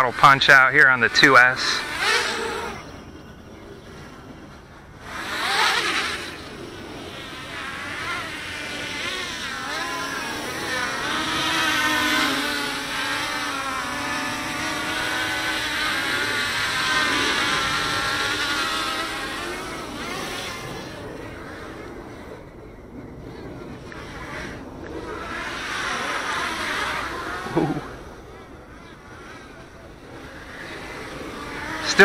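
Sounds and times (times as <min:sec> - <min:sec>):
drone motors and propellers whining: 0:00.0 - 0:32.0.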